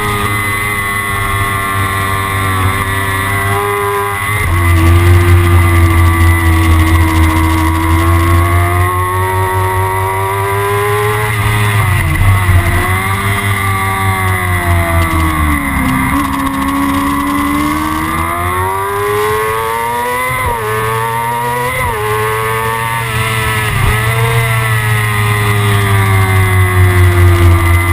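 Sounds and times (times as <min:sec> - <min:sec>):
motorcycle engine at high revs: 0:00.0 - 0:27.9.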